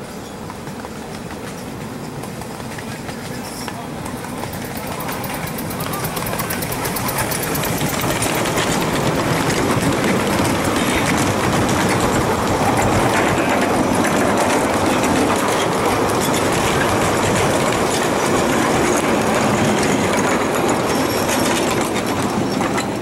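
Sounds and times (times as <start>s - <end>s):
model train rumbling: 0.0s - 23.0s
wheel clicks over rail joints: 0.4s - 23.0s.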